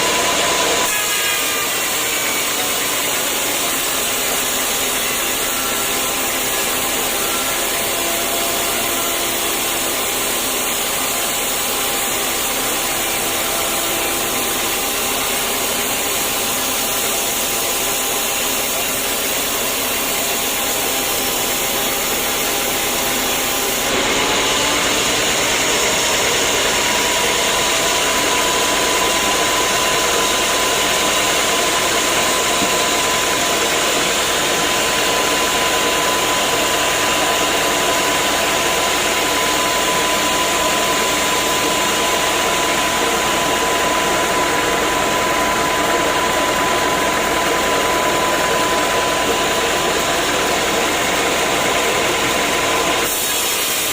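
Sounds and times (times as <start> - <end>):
sawmill machinery whining: 0.0 - 53.9.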